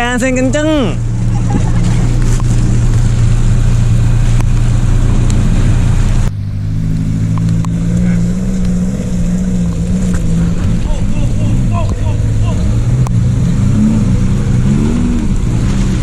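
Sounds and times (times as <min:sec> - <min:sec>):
vehicle engine droning under load: 0:00.0 - 0:16.0.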